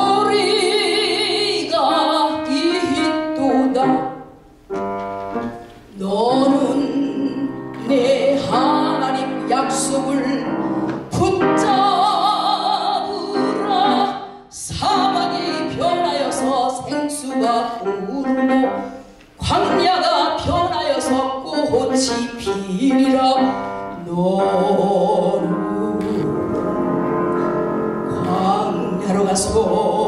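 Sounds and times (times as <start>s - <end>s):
woman singing with vibrato: 0.0s - 4.4s, 6.0s - 18.8s, 19.4s - 30.0s
piano accompaniment: 0.0s - 30.0s.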